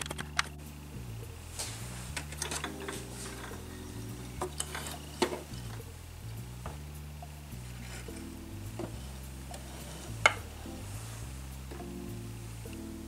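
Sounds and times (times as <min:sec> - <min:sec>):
background music with bass: 0:00.0 - 0:13.0.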